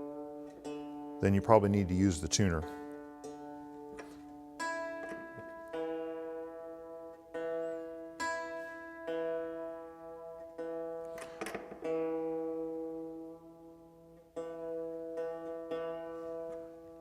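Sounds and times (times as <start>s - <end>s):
hammered dulcimer strings plucked: 0.0s - 17.0s.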